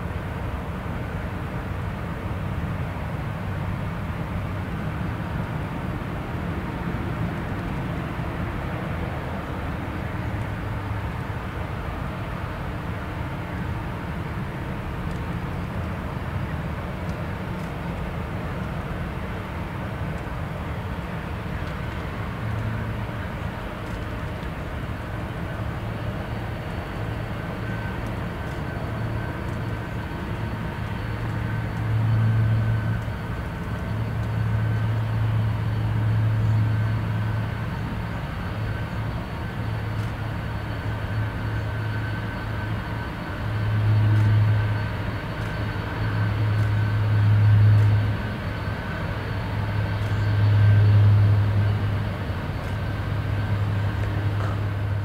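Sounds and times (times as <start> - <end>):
high engine whine: 0.0 - 55.0
jet engine rumble: 0.0 - 55.0
low hum: 3.3 - 55.0.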